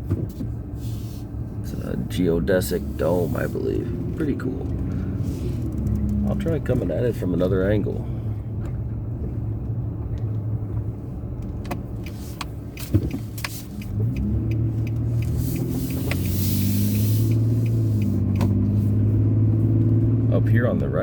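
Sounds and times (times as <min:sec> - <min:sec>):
pickup engine hum: 0:00.0 - 0:21.0
road noise inside cab: 0:00.0 - 0:21.0.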